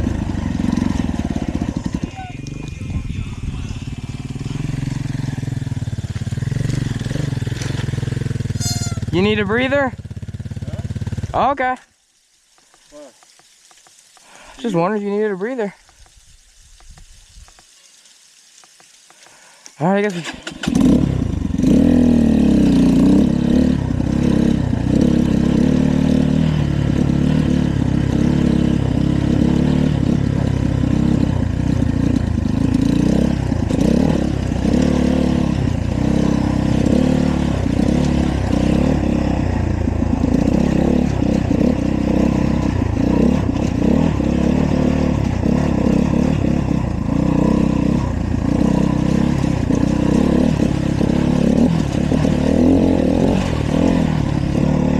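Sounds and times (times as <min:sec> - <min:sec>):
dirt bike engine revving: 0:00.0 - 0:11.7, 0:20.0 - 0:54.9.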